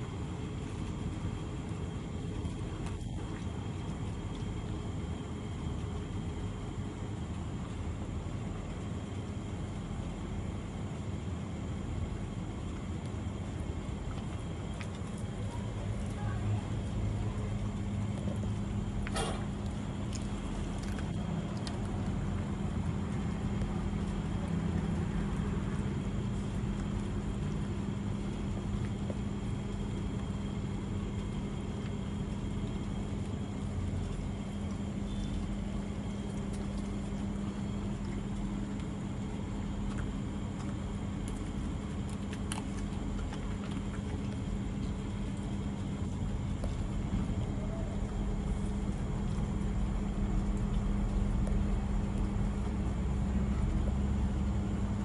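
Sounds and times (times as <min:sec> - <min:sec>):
machine humming and droning: 0:00.0 - 0:55.0.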